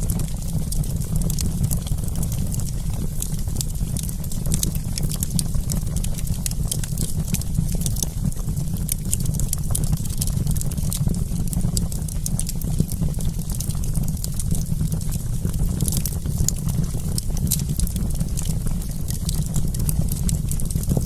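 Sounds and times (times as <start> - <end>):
campfire crackling: 0.0 - 21.0
low fire rumble: 0.0 - 21.0.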